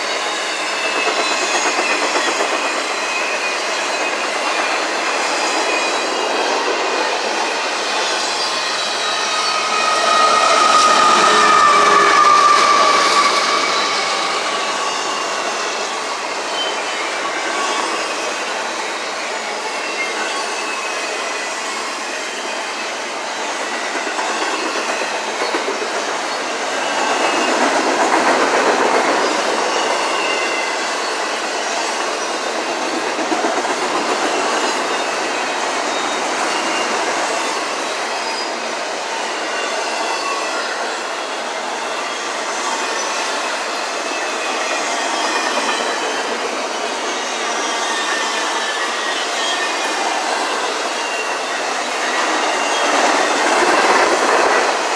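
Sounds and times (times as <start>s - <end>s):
freight train wheels on rails: 0.0s - 54.9s
high wheel squeals: 0.0s - 54.9s.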